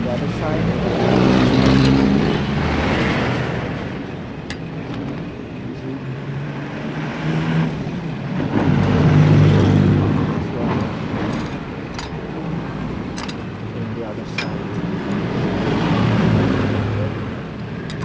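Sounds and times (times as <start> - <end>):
passing vehicle engine hum: 0.0 - 18.0.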